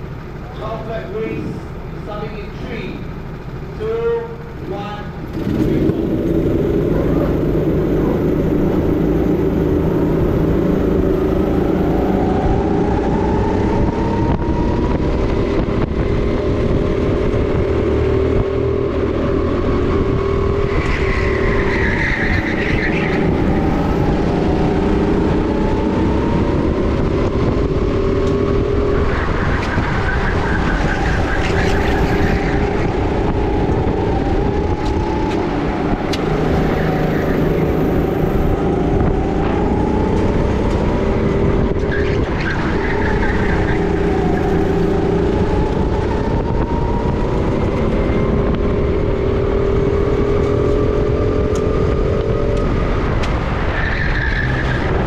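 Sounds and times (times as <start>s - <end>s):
kart engine revving: 3.1s - 55.0s.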